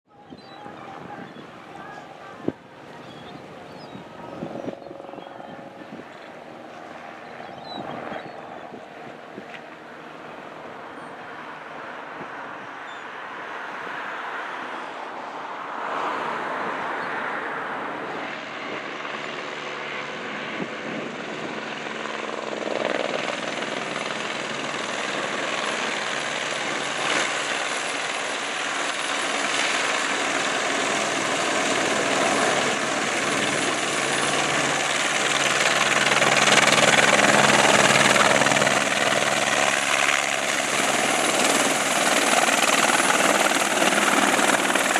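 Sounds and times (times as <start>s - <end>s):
helicopter rotor and turbine: 0.2s - 12.9s, 17.0s - 44.9s.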